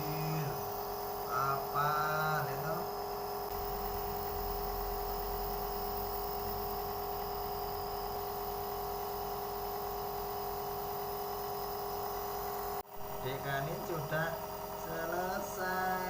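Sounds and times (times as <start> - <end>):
nebulizer compressor humming: 0.0 - 16.0.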